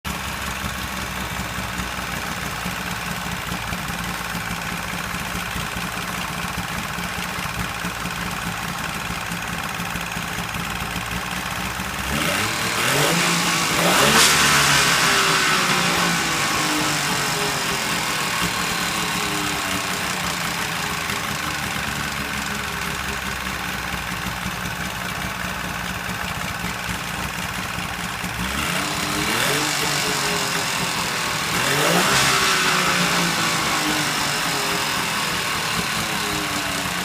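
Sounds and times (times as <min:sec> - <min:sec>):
engine idling with rattling: 0:00.1 - 0:37.0.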